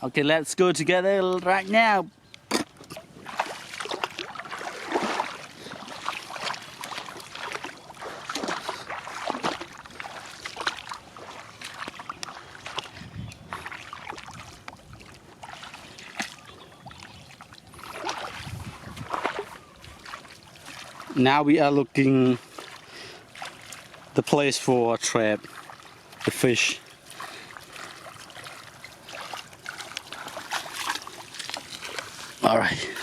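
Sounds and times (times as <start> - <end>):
water splashing and sloshing: 1.1 - 33.0.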